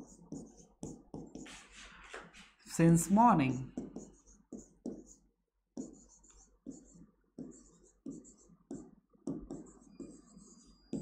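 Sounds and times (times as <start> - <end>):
pen scratching on a board: 0.0 - 1.9, 3.7 - 11.0.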